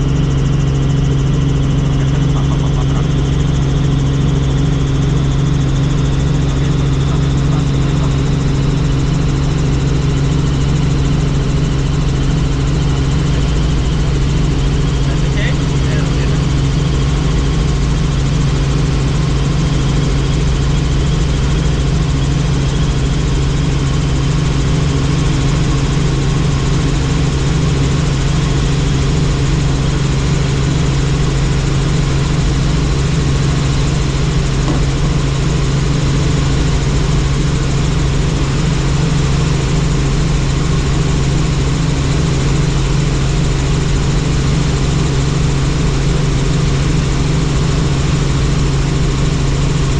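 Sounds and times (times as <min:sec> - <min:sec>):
helicopter engine and rotor: 0:00.0 - 0:49.9.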